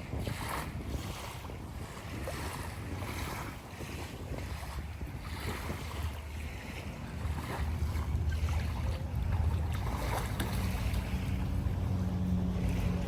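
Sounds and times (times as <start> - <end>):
boat engine humming: 0.0 - 13.0
wind buffeting microphone: 0.0 - 13.0.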